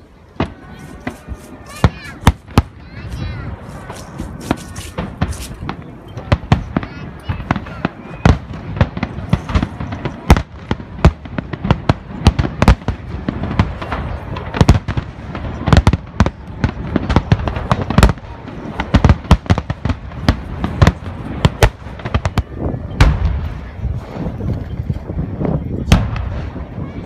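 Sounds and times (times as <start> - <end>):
fireworks booming: 0.3 - 27.0.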